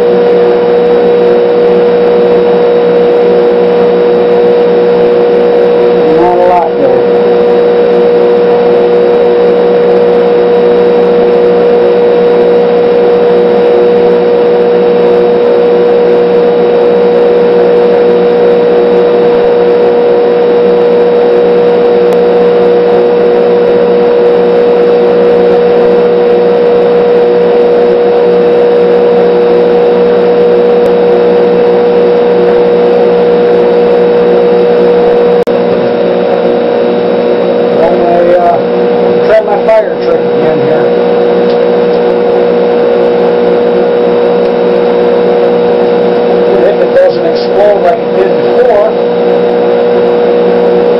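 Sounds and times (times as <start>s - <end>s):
battery charger electrical hum: 0.0s - 50.9s.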